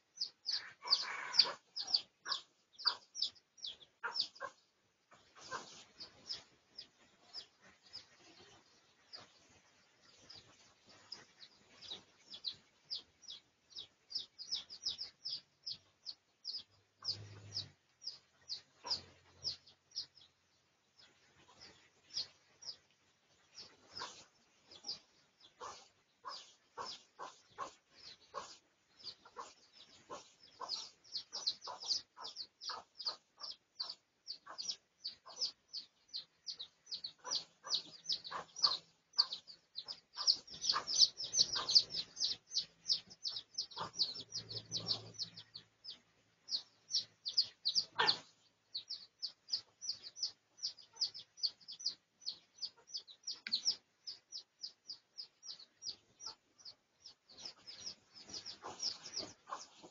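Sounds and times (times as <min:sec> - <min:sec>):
birds chirping: 0:00.0 - 0:59.9
lower bird chirps: 0:00.1 - 0:04.6, 0:10.1 - 0:20.4, 0:23.6 - 0:59.9.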